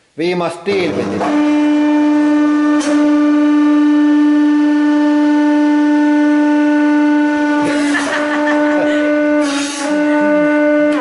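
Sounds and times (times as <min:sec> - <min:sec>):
hydraulic pump whining: 0:00.8 - 0:11.0.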